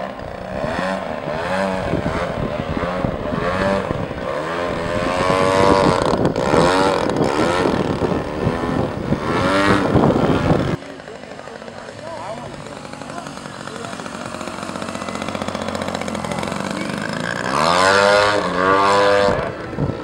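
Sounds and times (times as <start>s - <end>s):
model airplane engine and propeller: 0.0s - 20.0s.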